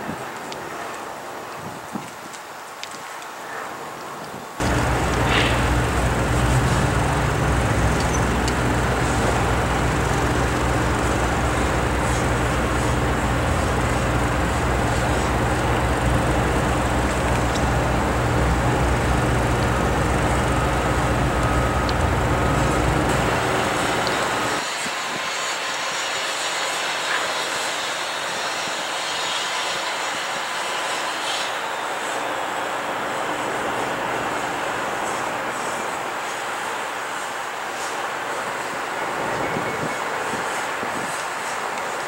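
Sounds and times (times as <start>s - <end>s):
diesel locomotive engine droning: 4.6s - 42.0s.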